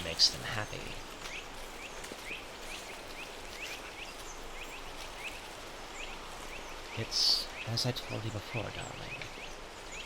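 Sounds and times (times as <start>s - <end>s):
small bird chirping: 0.0s - 10.0s
steady forest hiss: 0.0s - 10.0s.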